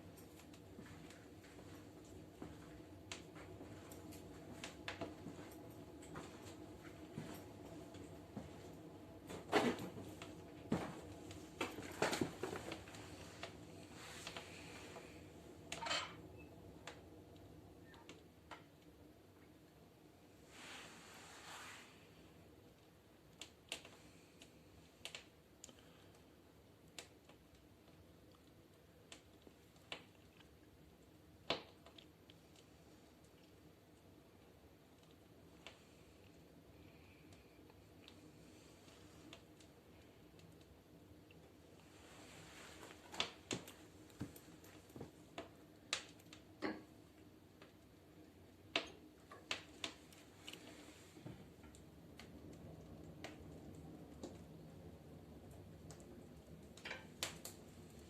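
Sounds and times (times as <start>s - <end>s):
soft rush of noise: 0.0s - 22.8s, 32.3s - 58.0s
wood fire popping: 1.5s - 15.8s, 22.7s - 58.0s.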